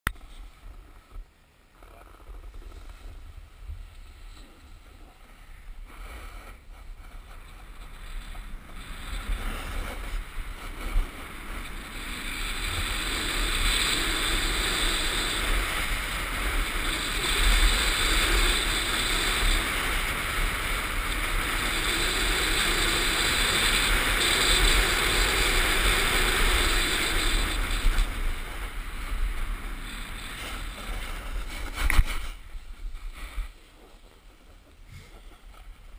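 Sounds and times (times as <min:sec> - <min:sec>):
skis scraping over snow: 0:00.2 - 0:35.9
wind on microphone: 0:02.2 - 0:35.9.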